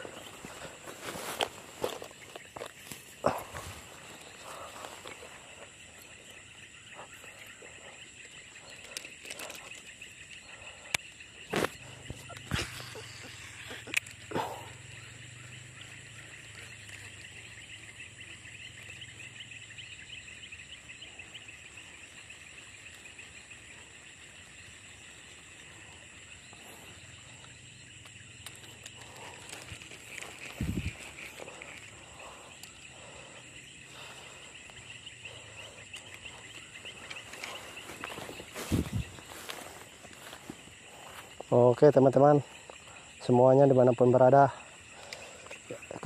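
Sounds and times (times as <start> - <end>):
rustling of dry grass: 0.0 - 43.4
insects and frogs calling: 0.0 - 46.0.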